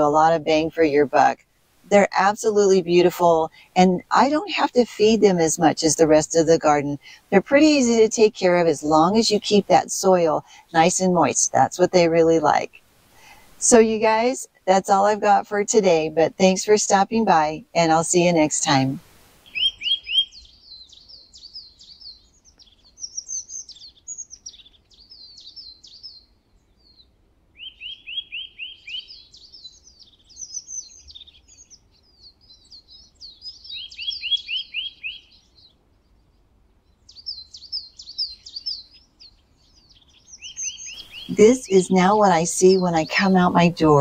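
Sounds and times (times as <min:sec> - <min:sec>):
songbirds twittering warble: 0:00.0 - 0:44.0.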